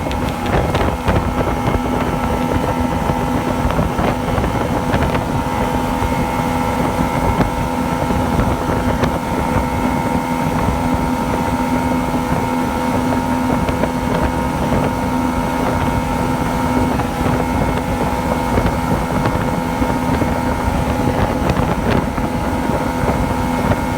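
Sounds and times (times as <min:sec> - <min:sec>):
two-stroke engine running: 0:00.0 - 0:23.9
wind on microphone: 0:00.0 - 0:23.9.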